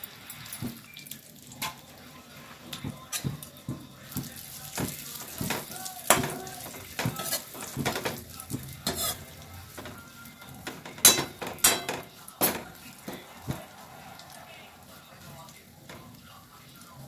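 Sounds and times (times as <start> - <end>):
light sizzle: 0.0 - 17.0
metal spatula scraping a pan: 1.6 - 15.2.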